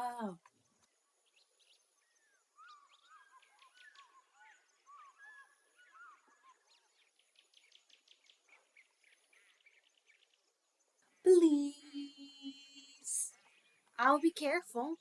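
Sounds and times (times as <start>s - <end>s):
small birds chirping and twittering: 0.0s - 15.0s.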